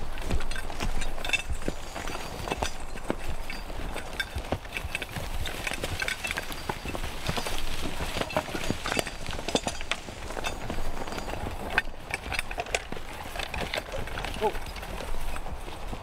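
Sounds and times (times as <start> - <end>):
horse hoof steps: 0.0 - 16.0.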